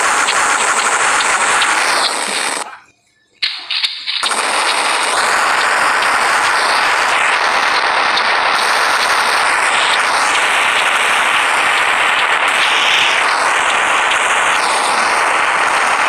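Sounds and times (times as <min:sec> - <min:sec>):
cartoon bomb crackling: 0:00.0 - 0:02.8, 0:03.4 - 0:16.0.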